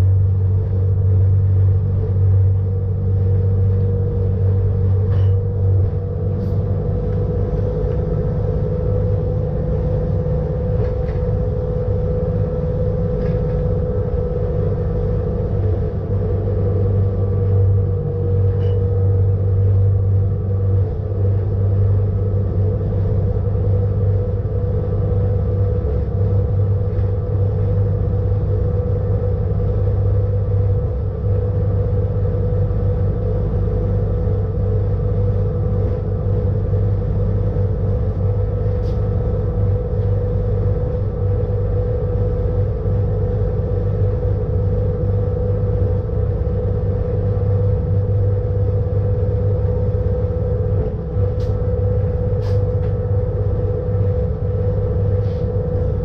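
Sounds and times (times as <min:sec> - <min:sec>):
electric train rumbling: 0:00.0 - 0:56.0.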